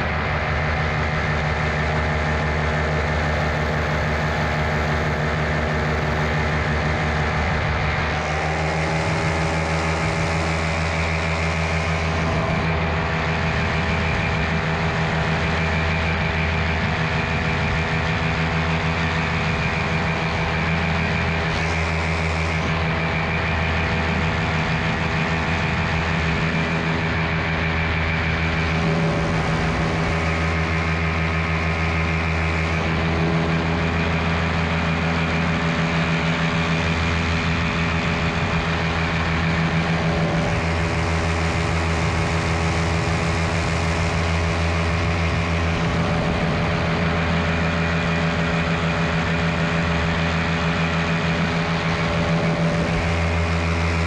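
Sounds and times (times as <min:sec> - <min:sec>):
paramotor engine running: 0:00.0 - 0:54.0.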